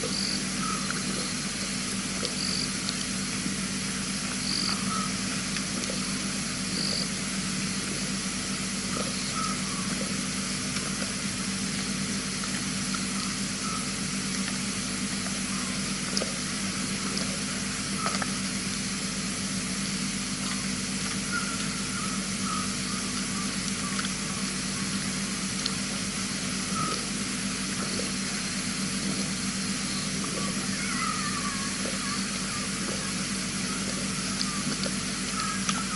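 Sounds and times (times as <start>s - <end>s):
frogs calling faintly: 0.0s - 35.9s
low hum: 0.0s - 35.9s.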